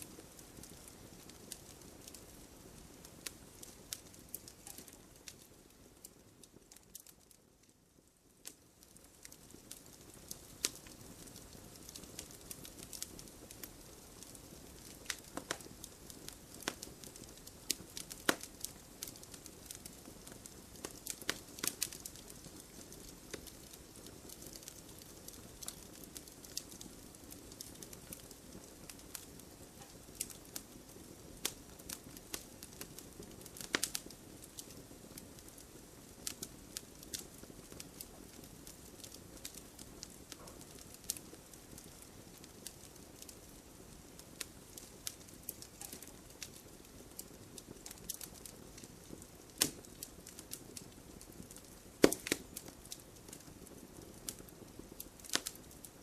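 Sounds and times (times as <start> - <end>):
wood fire crackling in fireplace: 0.0 - 56.0.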